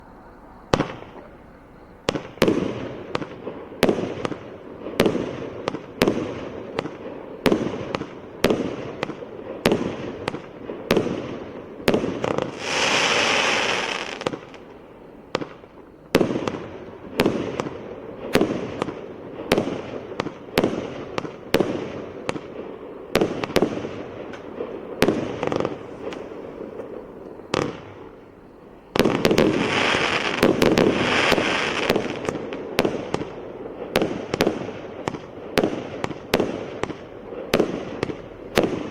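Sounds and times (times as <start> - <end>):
fireworks crackling hiss: 0.0 - 38.9
fireworks shots: 0.0 - 38.9.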